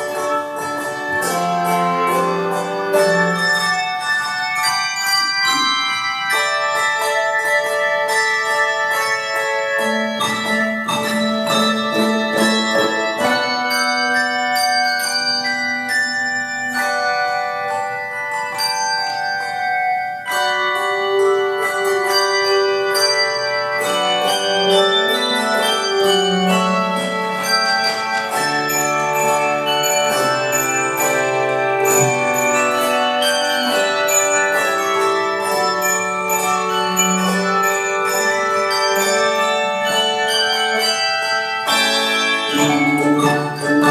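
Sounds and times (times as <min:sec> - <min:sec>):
bells playing slow melody: 0:00.0 - 0:43.9.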